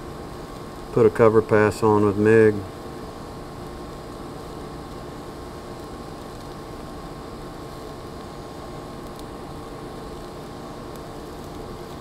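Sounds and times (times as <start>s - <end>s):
welding arc hissing: 0.0s - 12.0s.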